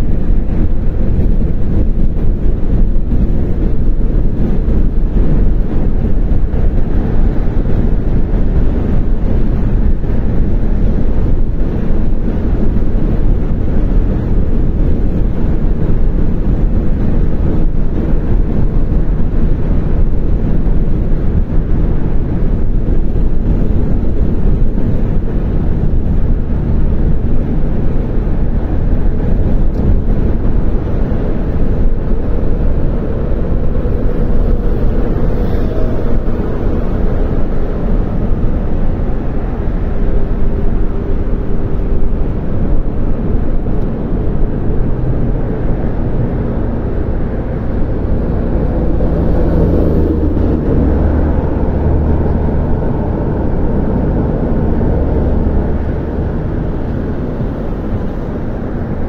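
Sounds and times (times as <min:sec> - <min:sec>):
low rumble of engine and tyres: 0:00.0 - 0:59.0.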